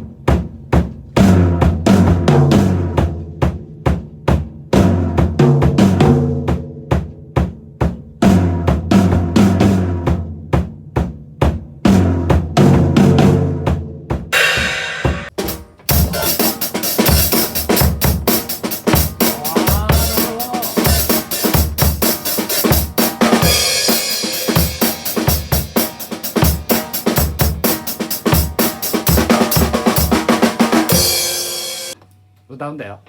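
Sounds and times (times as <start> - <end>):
drum kit playing punk beat: 0.0 - 32.0.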